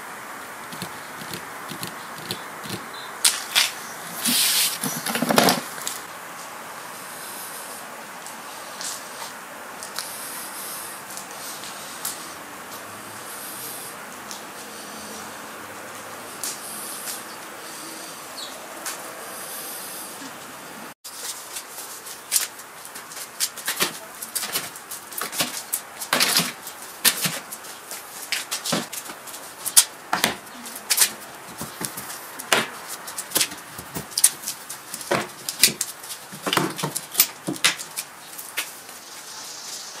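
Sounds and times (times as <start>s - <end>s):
steady outdoor hiss: 0.0s - 40.0s.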